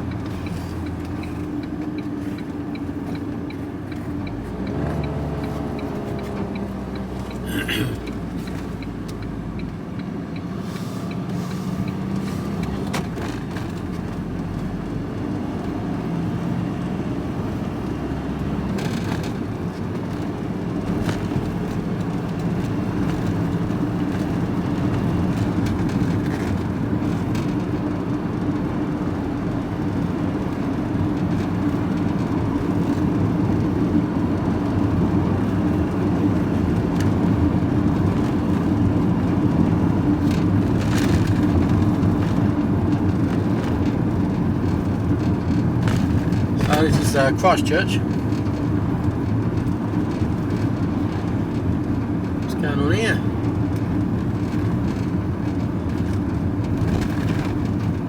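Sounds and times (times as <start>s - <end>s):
road noise: 0.0s - 58.0s
vehicle engine hum: 0.0s - 58.0s.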